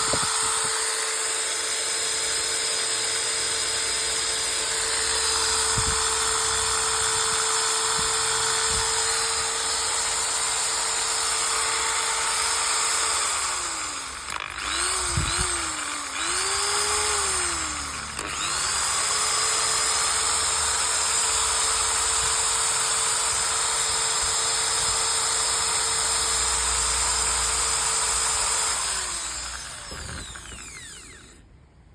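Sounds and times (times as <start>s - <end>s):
electric drill whining: 0.0s - 31.5s.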